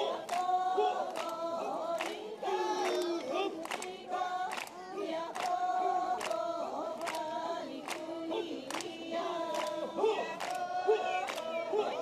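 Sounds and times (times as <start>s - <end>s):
group chanting in overlapping tones: 0.0s - 12.0s.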